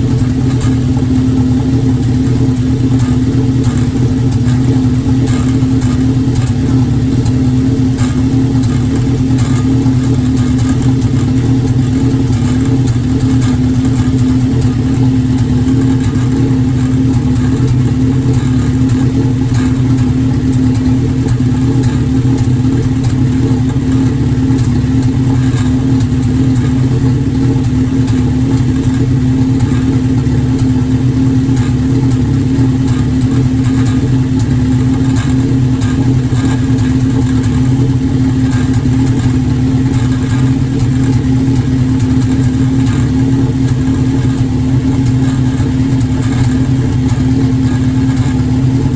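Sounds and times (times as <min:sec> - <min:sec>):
race car engine misfiring: 0:00.0 - 0:48.9.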